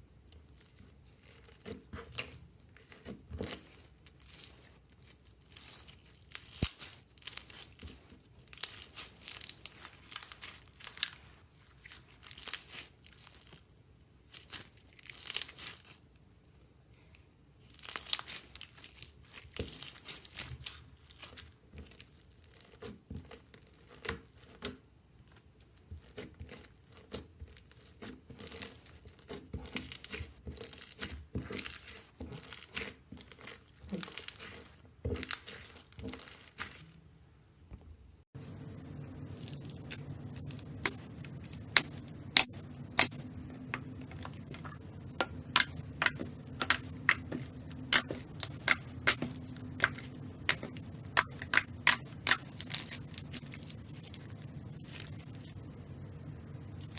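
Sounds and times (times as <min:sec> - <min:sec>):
slime crackling and popping: 0:00.4 - 0:16.0, 0:17.6 - 0:25.4, 0:26.0 - 0:37.0, 0:38.7 - 0:56.9.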